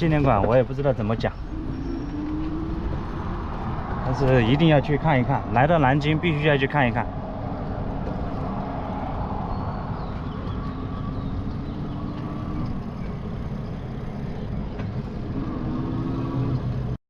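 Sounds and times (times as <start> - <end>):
motor vehicles passing: 0.0 - 17.0
wind and road noise: 0.0 - 17.0.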